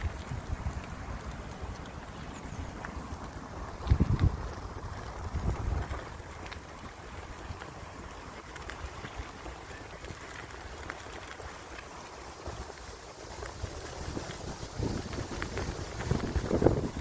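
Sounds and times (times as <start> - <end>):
faint ticks: 0.0 - 17.0
steady hiss: 0.0 - 17.0
wind rumbling on microphone: 0.0 - 17.0.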